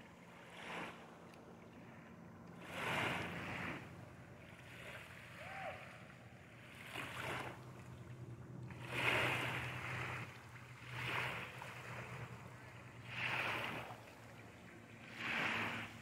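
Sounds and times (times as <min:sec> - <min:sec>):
small waves lapping on shore: 0:00.0 - 0:16.0.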